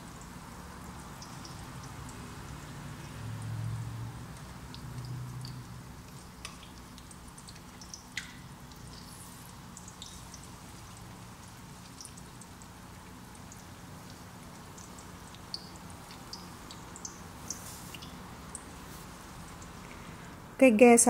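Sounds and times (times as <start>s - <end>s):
oil popping and crackling: 0.0s - 20.2s
tofu deep-frying in oil: 0.0s - 20.6s.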